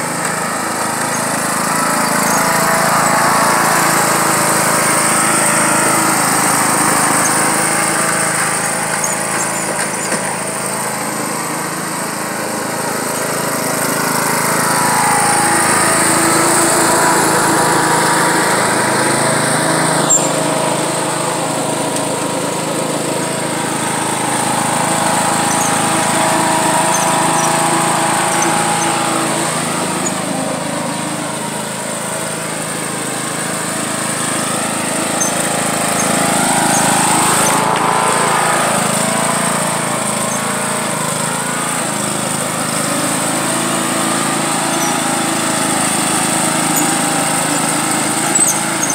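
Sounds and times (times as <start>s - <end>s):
riding lawn mower engine: 0.0s - 48.9s.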